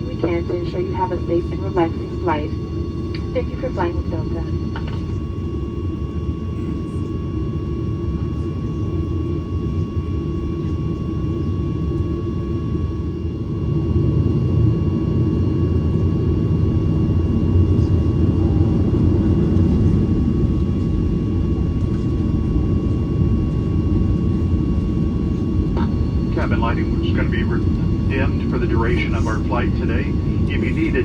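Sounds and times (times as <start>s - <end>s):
airplane cabin engine rumble: 0.0s - 31.0s
thin steady engine whine: 0.0s - 31.0s.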